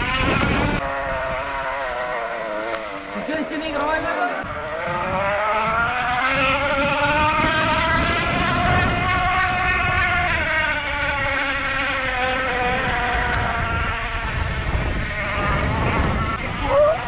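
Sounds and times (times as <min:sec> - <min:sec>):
electric bike motor whining: 0:00.0 - 0:17.0.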